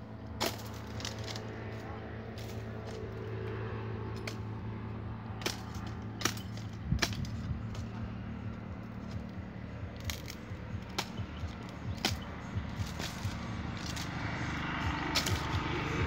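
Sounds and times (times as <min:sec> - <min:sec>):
steady low hum: 0:00.0 - 0:16.0
blade chopping palm fronds: 0:00.3 - 0:16.0.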